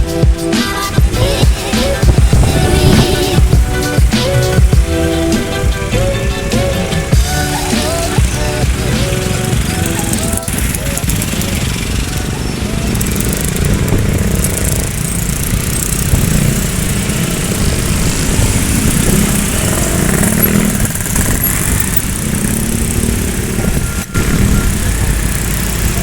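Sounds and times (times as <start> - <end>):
vehicle engines rumbling: 0.0 - 26.0.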